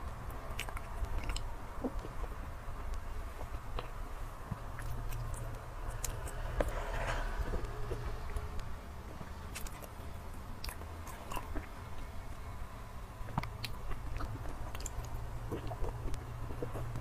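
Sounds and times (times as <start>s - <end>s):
low hum: 0.0s - 17.0s
wet chewing mouth clicks: 0.2s - 12.1s, 13.2s - 17.0s.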